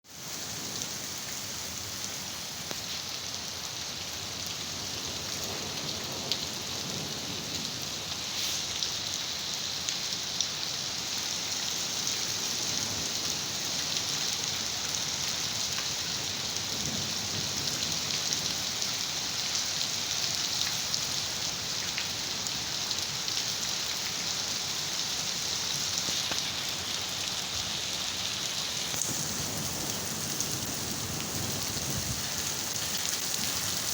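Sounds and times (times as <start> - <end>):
steady rain hiss: 0.1 - 33.9.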